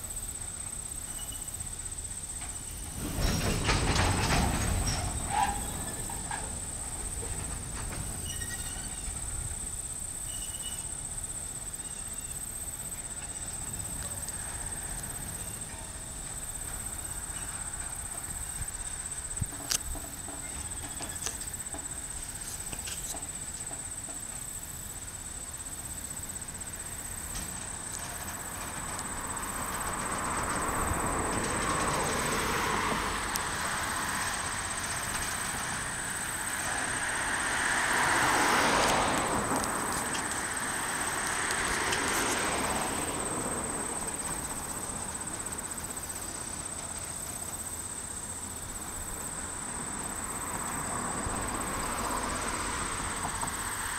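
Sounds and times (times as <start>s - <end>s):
freight train wheels clattering: 0.0s - 53.9s.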